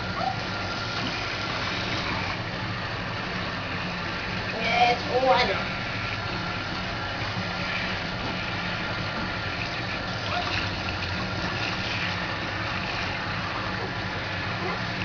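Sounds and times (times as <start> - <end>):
low steady hum: 0.0 - 15.0
shower head spraying water: 0.0 - 15.0.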